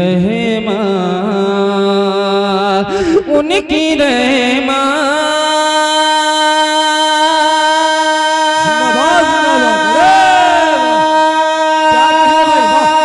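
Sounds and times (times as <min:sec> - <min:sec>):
man singing with echo: 0:00.0 - 0:13.0.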